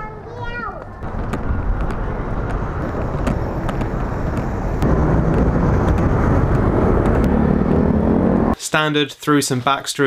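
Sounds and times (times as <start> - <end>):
street traffic: 0.0 - 8.6
vehicle engine hum: 0.2 - 8.6.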